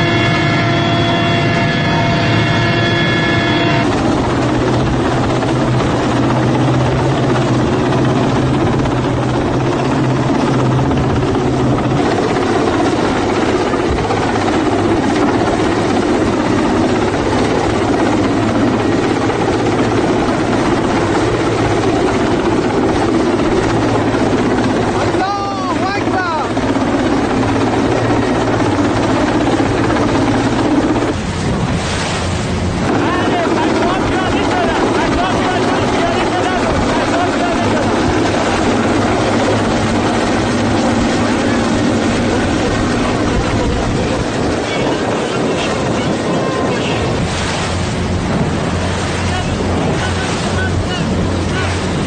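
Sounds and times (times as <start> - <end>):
helicopter cabin whine: 0.0 - 52.0
helicopter rotor and engine noise: 0.0 - 52.0
low hum: 0.0 - 52.0.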